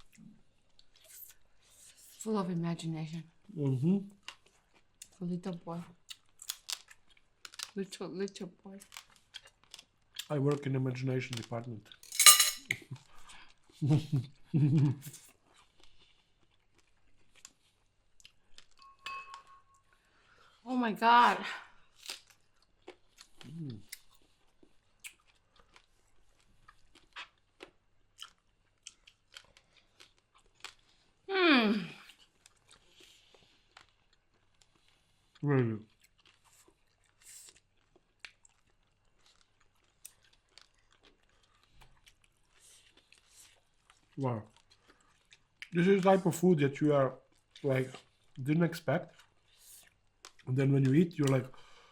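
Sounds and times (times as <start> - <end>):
chewing crispy food: 0.0 - 2.3, 3.1 - 12.0, 12.7 - 18.9, 19.8 - 20.6, 21.6 - 51.9.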